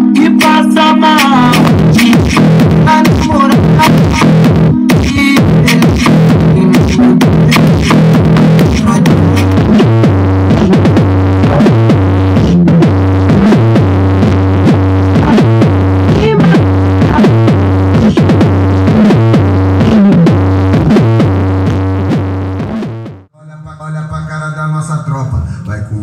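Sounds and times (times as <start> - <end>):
electronic music with synth bass: 0.0 - 23.3.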